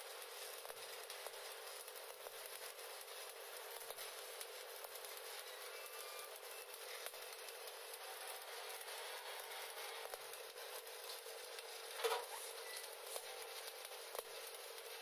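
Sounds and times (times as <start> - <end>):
loud welding pop: 0.0 - 15.0
welding arc crackling: 0.0 - 15.0.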